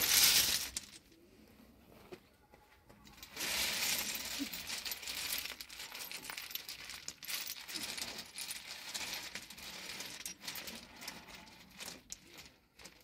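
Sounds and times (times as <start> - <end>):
small stones clattering and scraping: 0.0 - 1.1, 3.1 - 13.0.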